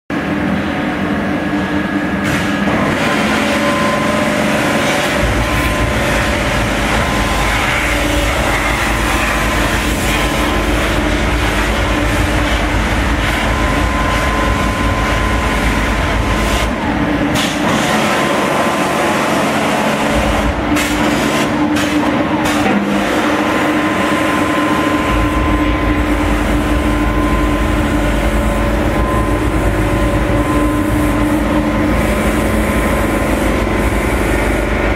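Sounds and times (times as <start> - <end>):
machinery humming: 0.1 - 34.9.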